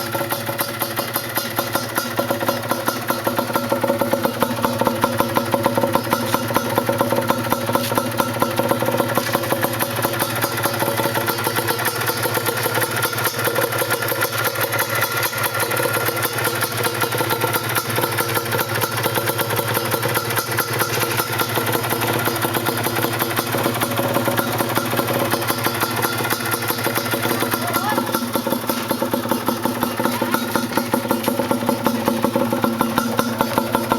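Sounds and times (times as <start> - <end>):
two-stroke engine idling: 0.0 - 33.9.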